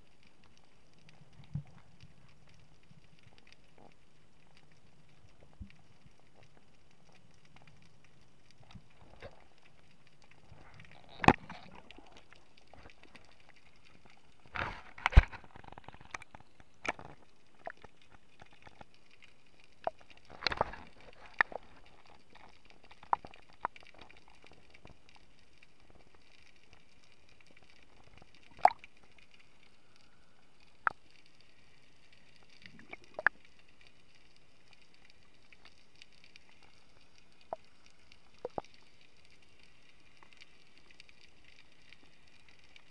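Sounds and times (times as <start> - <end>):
faint steady hiss: 0.0 - 42.9.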